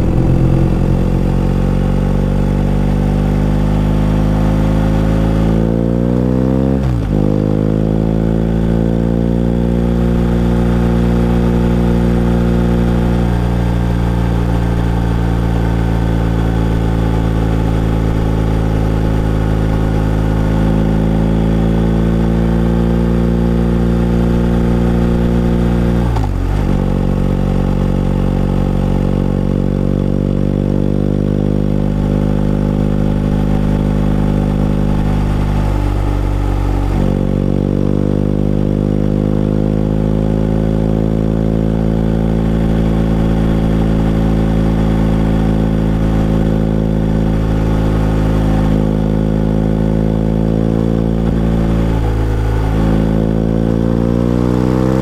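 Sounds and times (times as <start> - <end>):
motorcycle engine running: 0.0 - 5.6, 7.0 - 55.0.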